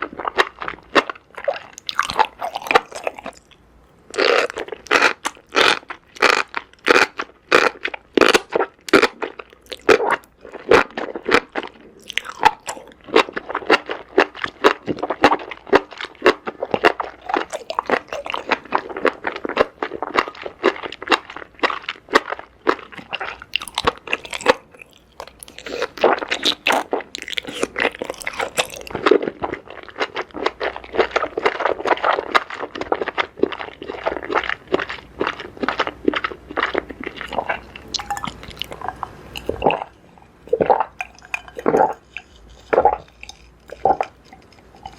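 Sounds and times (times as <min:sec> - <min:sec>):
crunchy wet chewing: 0:00.0 - 0:44.9.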